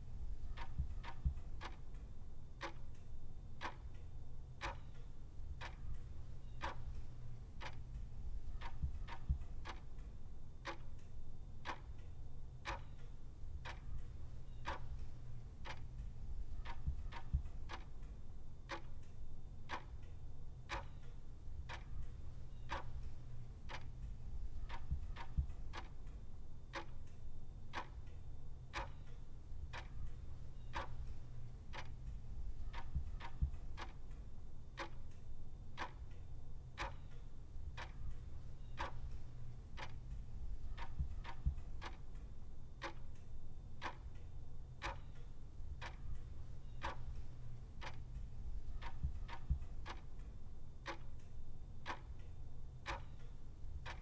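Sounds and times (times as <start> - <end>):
low steady hum: 0.0 - 54.0
clock ticking: 0.1 - 54.0.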